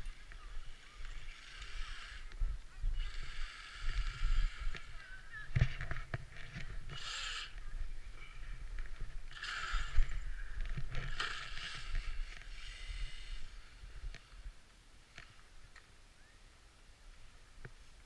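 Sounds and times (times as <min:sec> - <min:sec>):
wind rumble on microphone: 0:00.0 - 0:14.6.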